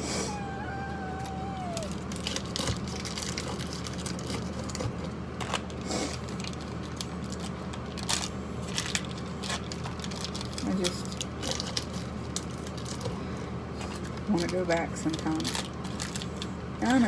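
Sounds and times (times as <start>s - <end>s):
steady low hum: 0.0s - 17.0s
foil pouch crinkling: 1.1s - 13.2s, 13.8s - 17.0s.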